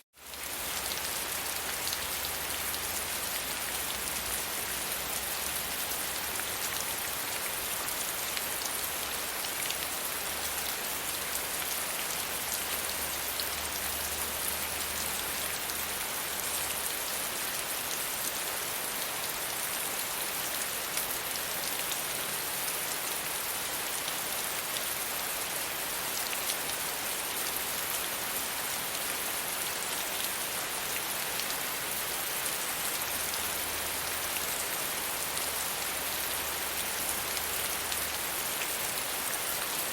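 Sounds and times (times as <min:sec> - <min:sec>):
gentle rain pattering: 0:00.1 - 0:39.9.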